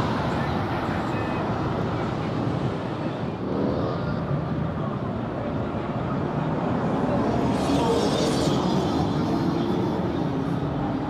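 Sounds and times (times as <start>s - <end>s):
car engines and road noise: 0.0s - 11.0s.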